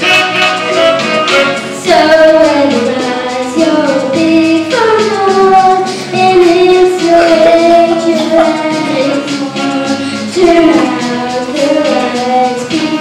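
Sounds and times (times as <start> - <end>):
instrumental accompaniment: 0.0 - 13.0
child singing into a microphone: 1.8 - 13.0.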